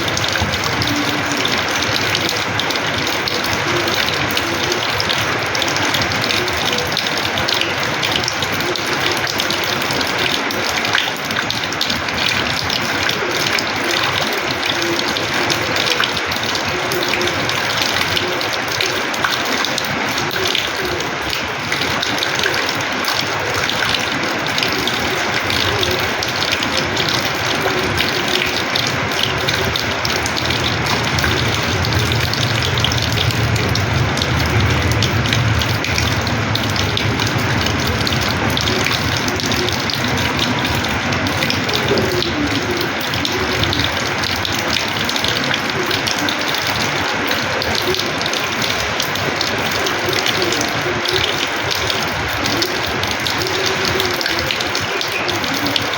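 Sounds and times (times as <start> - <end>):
rainwater splashing on floor: 0.0 - 55.9.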